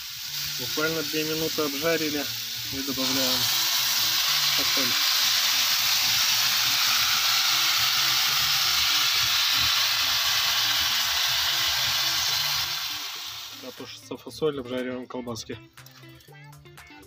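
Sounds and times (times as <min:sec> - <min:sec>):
vegetables sizzling in a frying pan: 0:00.0 - 0:13.9.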